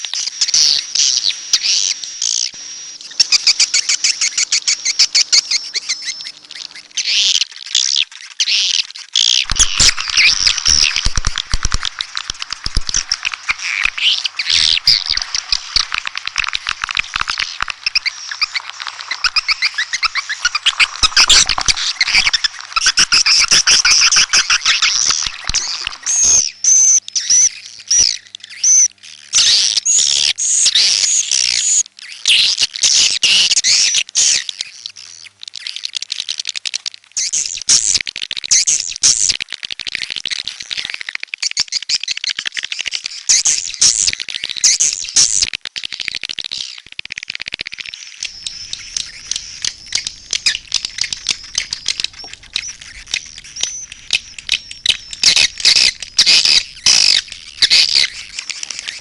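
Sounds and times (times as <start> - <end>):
swiftlets twittering and clicking: 0.0 - 28.0, 37.2 - 59.0.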